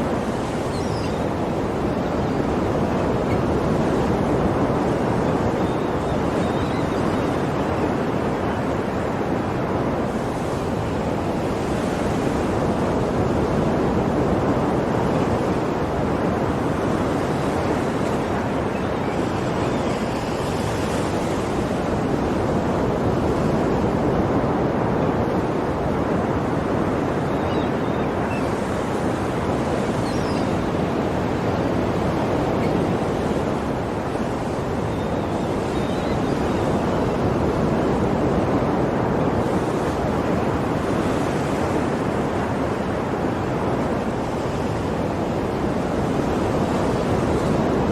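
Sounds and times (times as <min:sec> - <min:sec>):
sea waves washing onto shore: 0:00.0 - 0:47.9.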